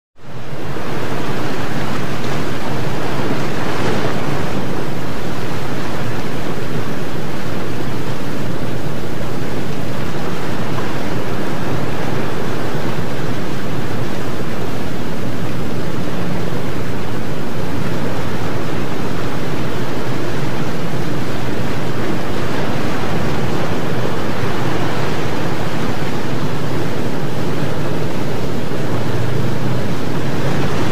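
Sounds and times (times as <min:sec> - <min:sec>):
wind buffeting microphone: 0:00.3 - 0:30.9.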